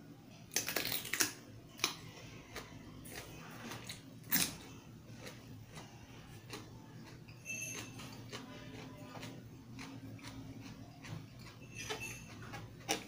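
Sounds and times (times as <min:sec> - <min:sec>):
cucumber being bitten and chewed: 0:00.5 - 0:13.0.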